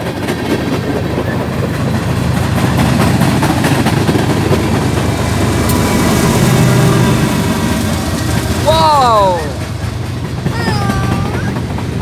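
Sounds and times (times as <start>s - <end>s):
diesel locomotive engine running: 0.0s - 12.0s
rumble of train cars: 0.0s - 12.0s.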